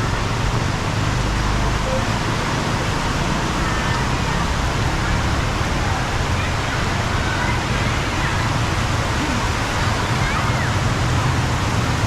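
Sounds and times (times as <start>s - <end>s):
heavy rain hissing: 0.0s - 12.0s
road traffic: 0.0s - 12.0s.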